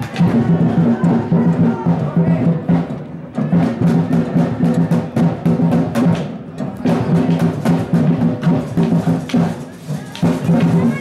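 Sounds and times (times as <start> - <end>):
driving drum beat: 0.0 - 11.0.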